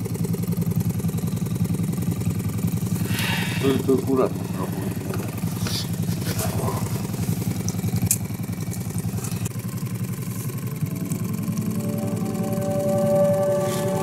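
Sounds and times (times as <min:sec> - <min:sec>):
outboard motor chugging: 0:00.0 - 0:14.0.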